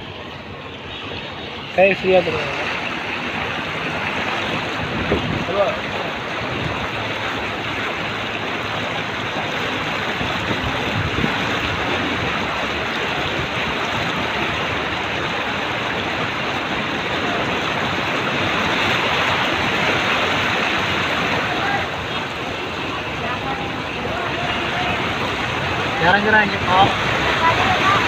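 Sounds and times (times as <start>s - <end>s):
floodwater rushing and spraying: 0.0s - 28.0s.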